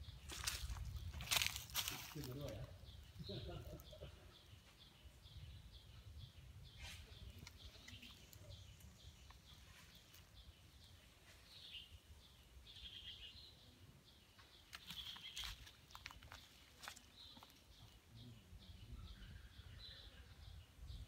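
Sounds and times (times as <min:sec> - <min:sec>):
bird chirps: 0:00.0 - 0:21.0.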